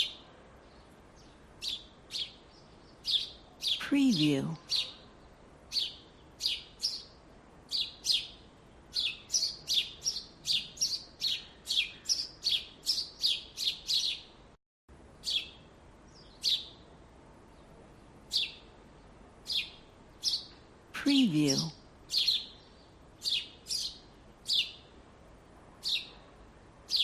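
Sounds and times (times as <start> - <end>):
small birds chirping: 0.0 - 14.4, 15.2 - 25.0, 25.8 - 26.3.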